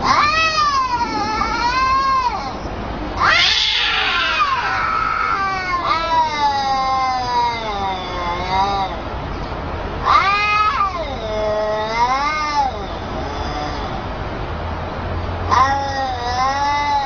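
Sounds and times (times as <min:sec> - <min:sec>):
cat yowling: 0:00.0 - 0:09.1, 0:10.0 - 0:14.0, 0:15.5 - 0:17.0.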